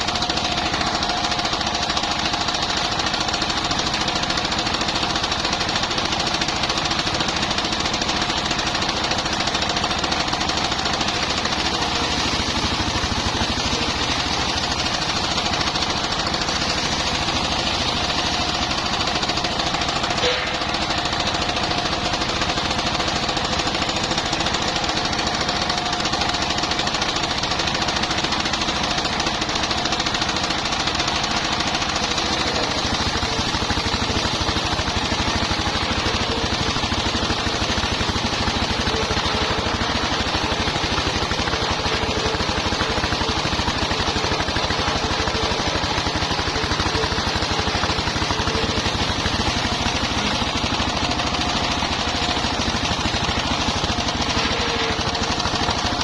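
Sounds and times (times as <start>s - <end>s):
sawmill engine pulsing: 0.0s - 56.0s.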